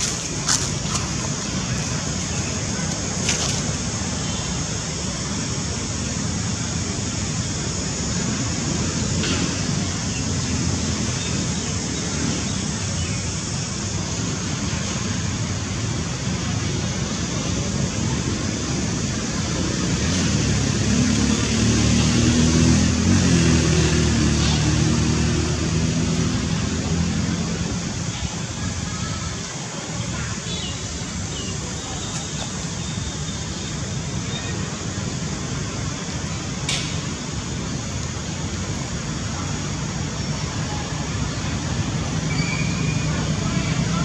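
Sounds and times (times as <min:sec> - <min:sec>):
low rushing background noise: 0:00.0 - 0:44.0.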